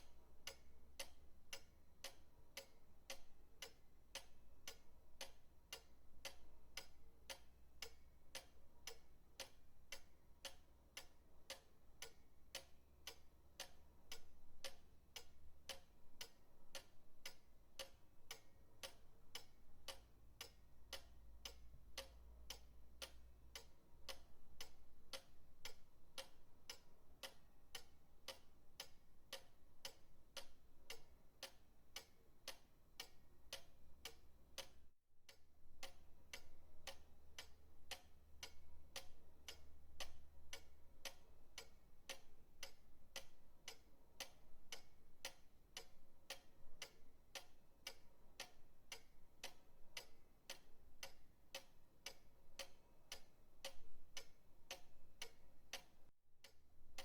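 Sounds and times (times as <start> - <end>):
pendulum clock ticking: 0.0 - 57.0.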